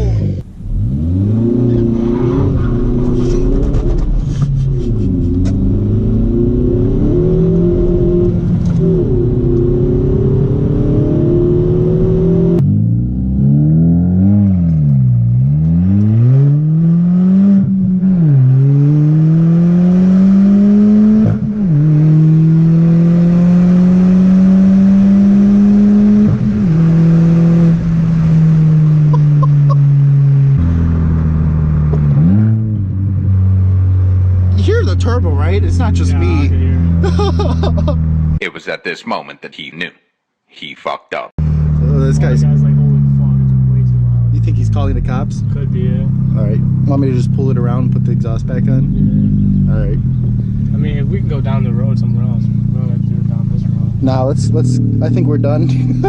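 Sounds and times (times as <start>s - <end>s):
loud car engine revving: 0.0s - 38.4s, 41.4s - 56.0s.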